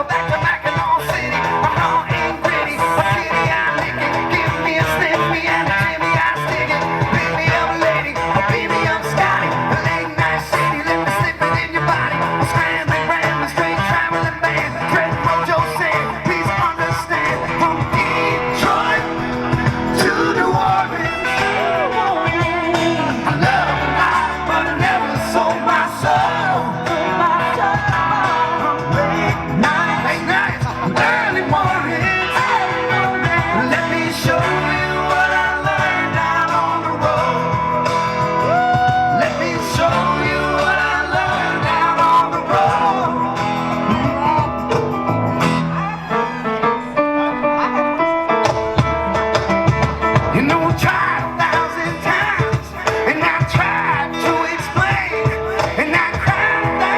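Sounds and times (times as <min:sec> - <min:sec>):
electric guitar: 0:00.0 - 0:56.9
live rock band playing: 0:00.0 - 0:56.9
person singing: 0:00.0 - 0:56.9.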